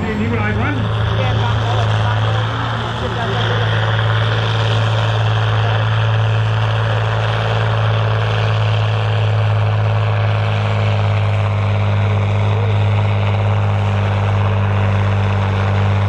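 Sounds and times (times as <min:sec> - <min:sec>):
tractor engine droning under load: 0:00.0 - 0:16.0.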